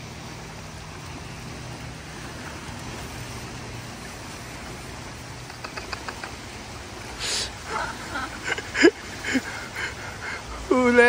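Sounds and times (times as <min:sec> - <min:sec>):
rushing canal current: 0:00.0 - 0:11.0.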